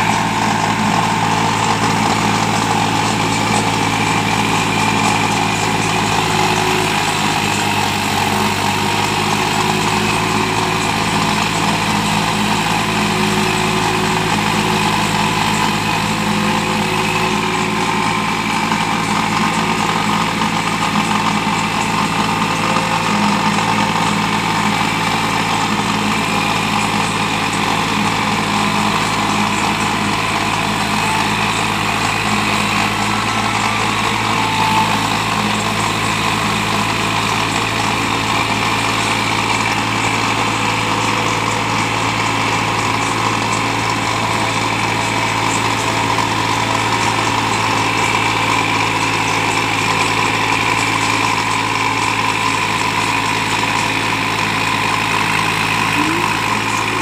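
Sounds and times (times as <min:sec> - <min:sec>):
rotavator churning soil: 0:00.0 - 0:57.0
tractor diesel engine running: 0:00.0 - 0:57.0.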